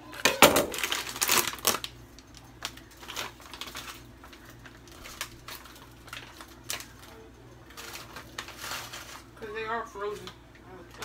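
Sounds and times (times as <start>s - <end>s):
plastic bag crinkling: 0.1s - 11.0s.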